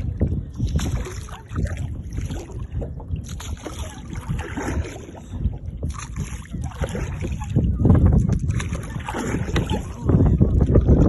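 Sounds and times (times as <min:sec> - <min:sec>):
oars pulling through water: 0:00.0 - 0:11.0
water splashes: 0:00.0 - 0:11.0
wind on microphone: 0:00.0 - 0:11.0.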